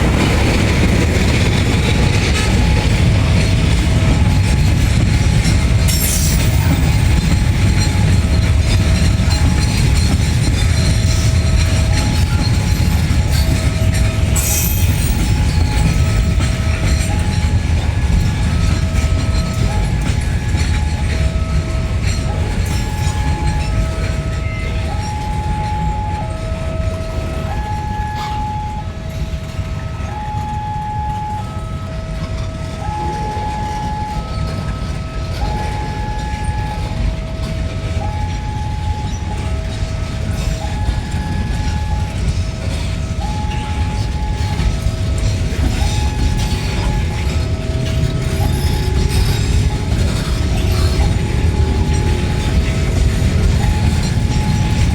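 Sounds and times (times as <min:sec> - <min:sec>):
train rumbling past: 0:00.0 - 0:54.9
two-tone electronic warning alarm: 0:00.0 - 0:54.9.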